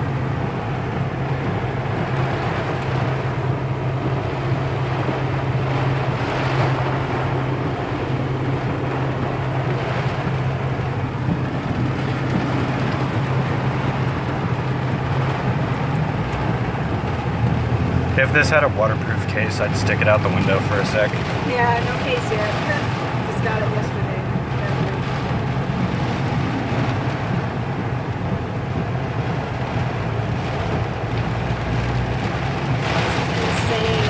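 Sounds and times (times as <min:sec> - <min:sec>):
car low hum: 0:00.0 - 0:34.0
heavy rain on a car roof: 0:00.0 - 0:34.0.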